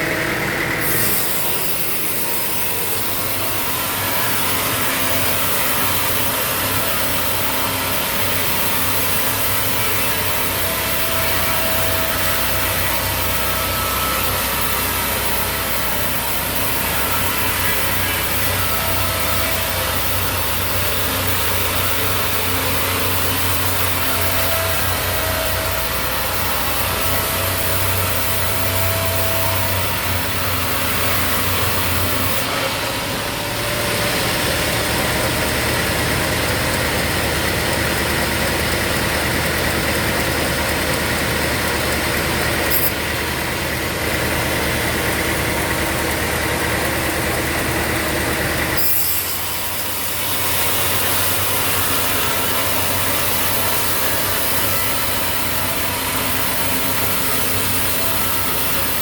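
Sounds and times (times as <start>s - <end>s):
motor-driven saw humming: 0.0s - 59.0s.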